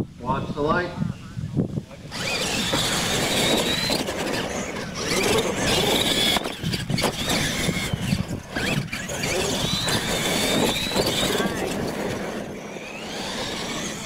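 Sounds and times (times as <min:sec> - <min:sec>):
electric motor and gear whine: 0:01.1 - 0:14.0
tyres scrabbling on dirt: 0:02.0 - 0:14.0.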